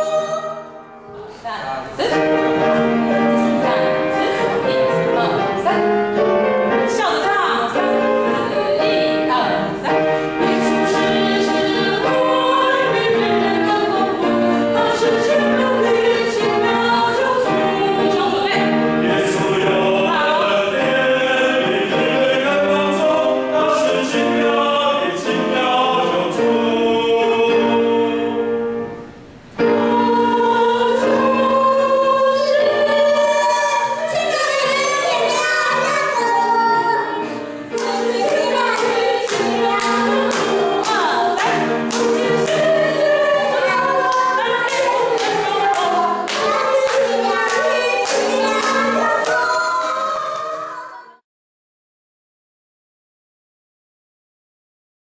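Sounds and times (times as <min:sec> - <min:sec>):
mixed choir singing a hymn: 0:00.0 - 0:51.2.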